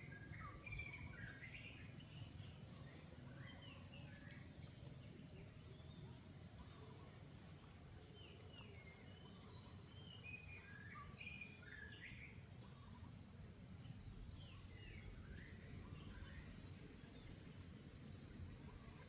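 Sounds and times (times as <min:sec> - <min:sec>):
faint high chirping calls: 0:00.0 - 0:04.7, 0:08.2 - 0:19.0
low background hum: 0:00.0 - 0:19.0.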